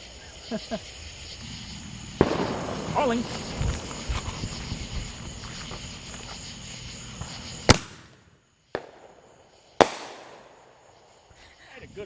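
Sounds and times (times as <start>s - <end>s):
crickets chirping: 0.0s - 12.0s
firework bangs: 0.3s - 11.4s.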